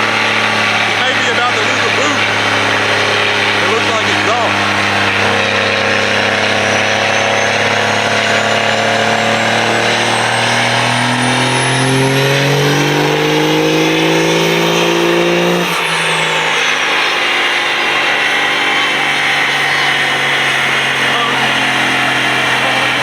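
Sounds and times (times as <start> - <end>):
diesel engine revving: 0.0 - 23.0
high turbo whine: 0.0 - 23.0.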